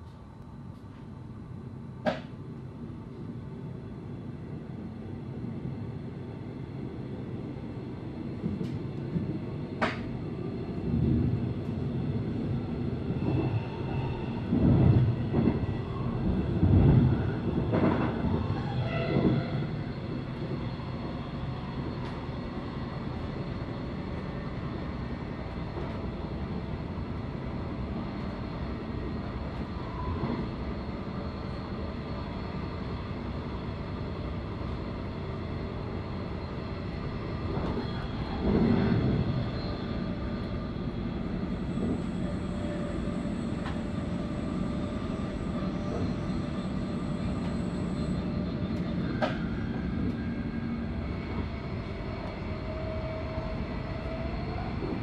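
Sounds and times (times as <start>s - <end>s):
train running noise inside carriage: 0.0s - 55.0s.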